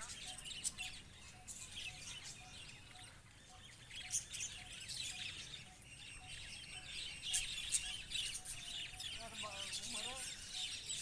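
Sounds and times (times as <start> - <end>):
budgerigars chattering: 0.0 - 11.0
sharp bird calls: 0.0 - 11.0.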